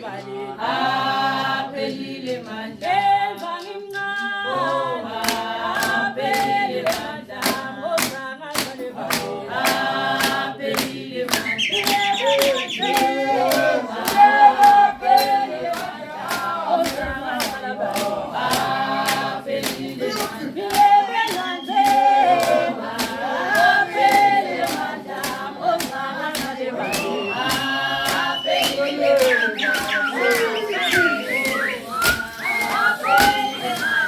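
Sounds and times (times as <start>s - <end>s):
group of voices singing: 0.0s - 34.0s
rhythmic claps or stamps: 0.0s - 34.0s.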